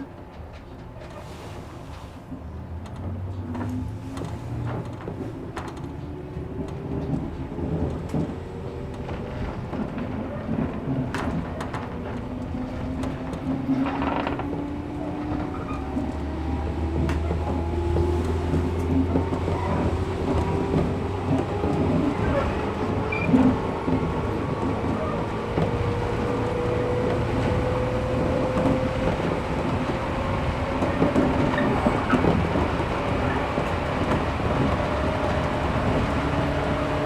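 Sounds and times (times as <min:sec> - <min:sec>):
train rolling noise: 0:00.0 - 0:37.0.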